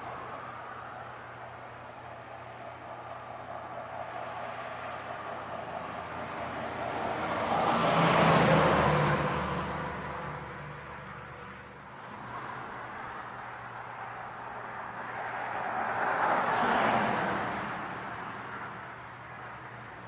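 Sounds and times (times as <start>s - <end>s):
heavy truck passing: 0.0s - 18.8s.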